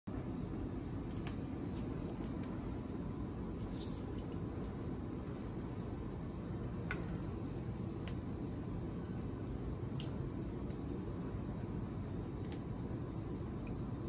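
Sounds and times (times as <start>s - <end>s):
low background rumble: 0.1s - 14.0s.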